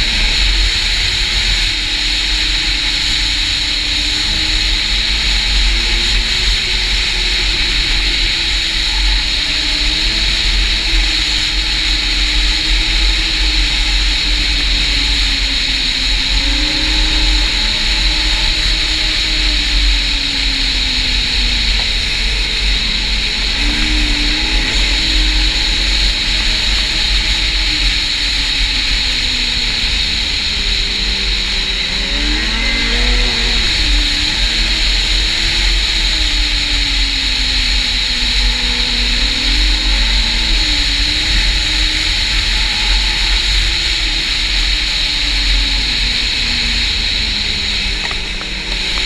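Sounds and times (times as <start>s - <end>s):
snowmobile engine running: 0.0s - 49.0s.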